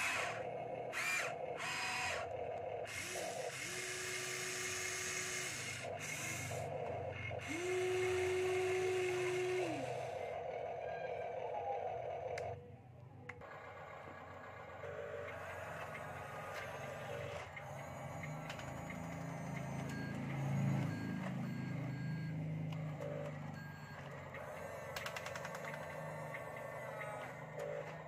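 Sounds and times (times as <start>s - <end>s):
toy vehicle reversing beeps: 0.0s - 12.7s, 13.3s - 28.0s.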